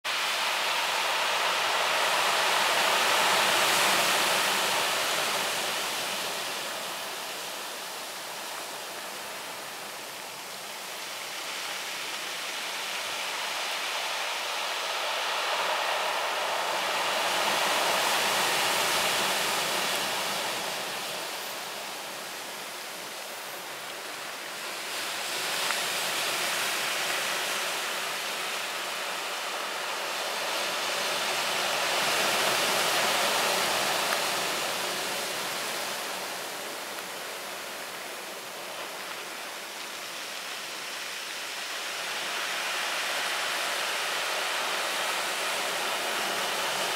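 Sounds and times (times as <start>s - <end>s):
heavy surf roaring: 0.1s - 10.2s, 11.7s - 46.9s
waves crashing: 0.1s - 46.9s.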